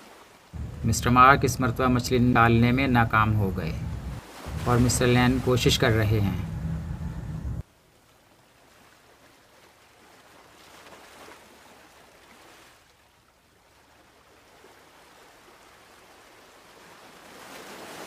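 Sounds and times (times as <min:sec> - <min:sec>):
wind and water hiss: 0:00.0 - 0:18.0.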